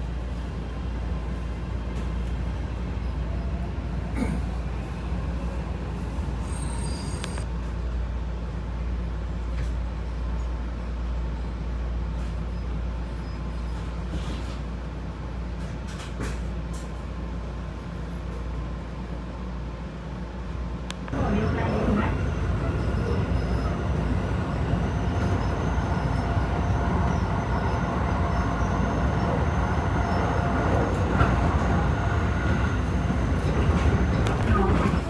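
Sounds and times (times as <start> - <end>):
train wheels rumbling on rails: 0.0 - 19.1, 20.9 - 35.0.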